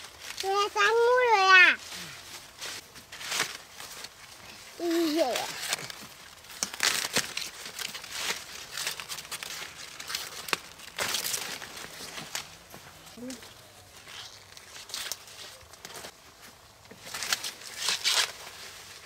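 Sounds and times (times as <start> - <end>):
leaves crinkling and rustling: 0.0 - 19.0.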